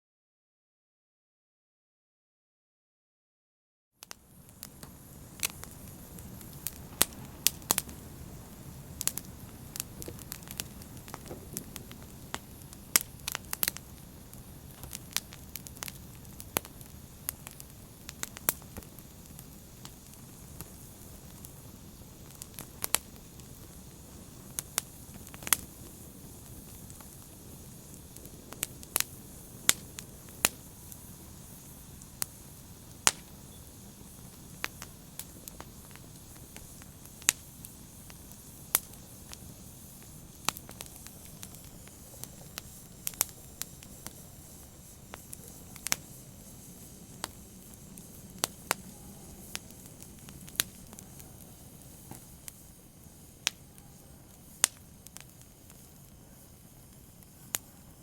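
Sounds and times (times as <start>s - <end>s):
fire crackling with pops and snaps: 4.0s - 58.0s
hiss of flames: 4.0s - 58.0s.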